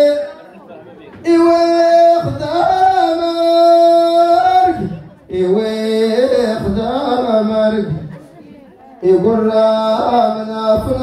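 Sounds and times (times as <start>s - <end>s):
man singing long notes: 1.2s - 8.1s, 9.0s - 11.0s.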